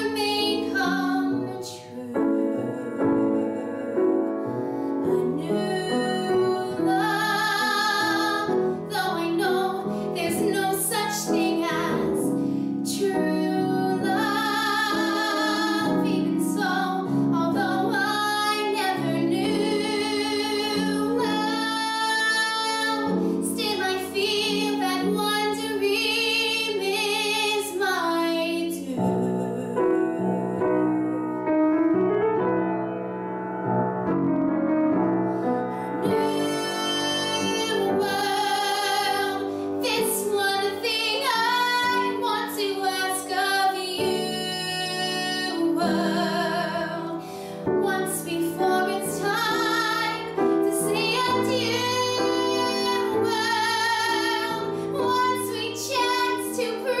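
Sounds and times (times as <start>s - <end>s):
woman singing ballad with vibrato: 0.0s - 31.2s, 36.0s - 57.0s
piano accompaniment: 0.0s - 57.0s.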